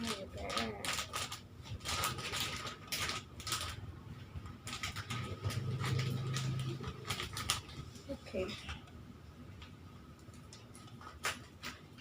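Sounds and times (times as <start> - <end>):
plastic packaging crinkling: 0.0 - 8.6, 10.3 - 12.0.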